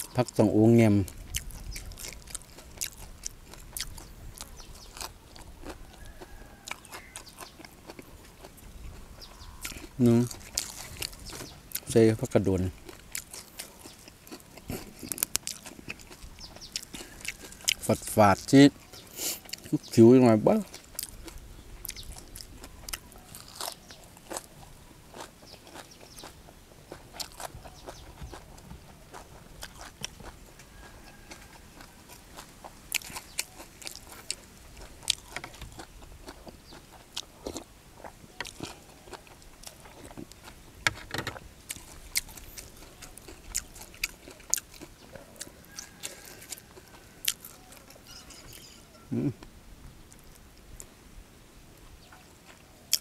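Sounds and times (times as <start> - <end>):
chewing with crisp crunches: 0.0 - 51.0, 51.7 - 53.0.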